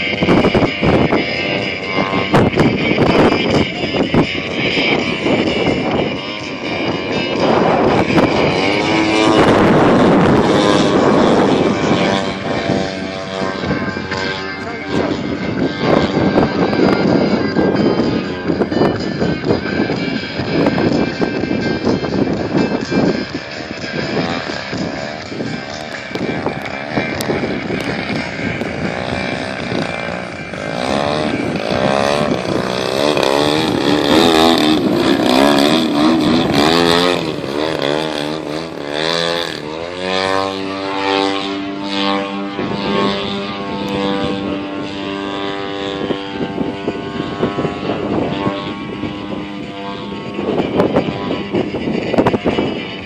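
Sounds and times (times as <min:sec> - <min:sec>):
model airplane engine and propeller: 0:00.0 - 0:53.0.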